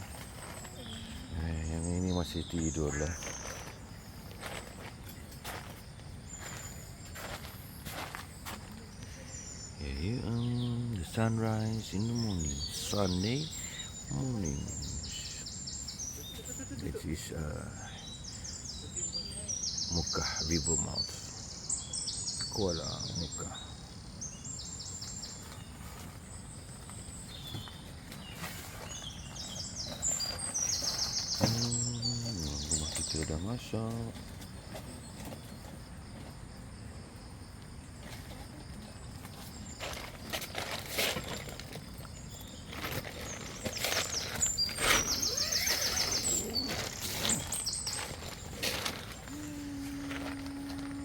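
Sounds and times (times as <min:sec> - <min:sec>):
birds chirping: 0:00.0 - 0:51.0
outdoor background noise: 0:00.0 - 0:51.0.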